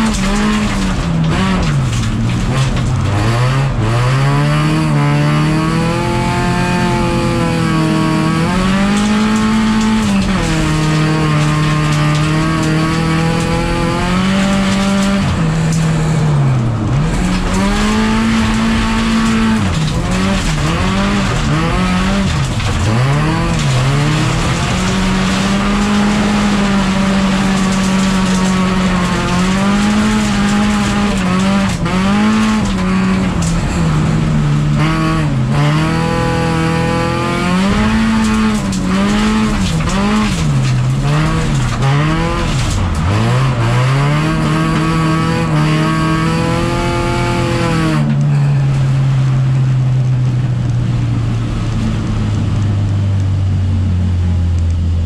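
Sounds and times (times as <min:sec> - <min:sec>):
race car engine under load: 0:00.0 - 0:55.0.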